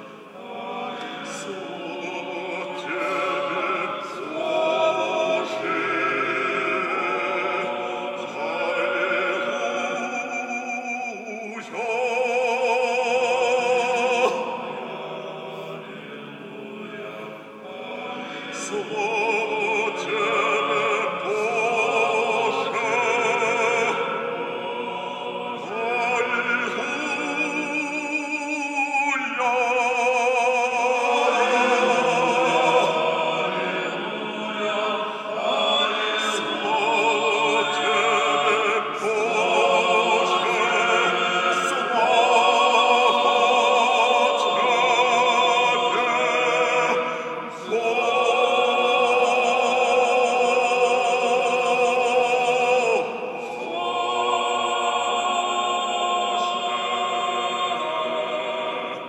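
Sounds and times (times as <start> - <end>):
male choir singing chords: 0.0 - 59.0.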